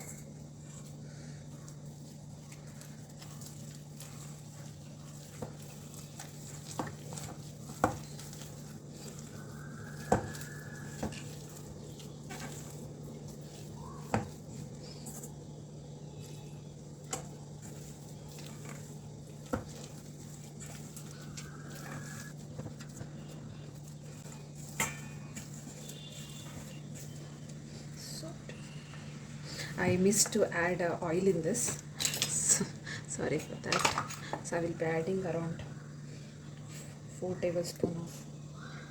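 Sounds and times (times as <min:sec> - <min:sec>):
thick batter being mixed: 0:00.0 - 0:31.9.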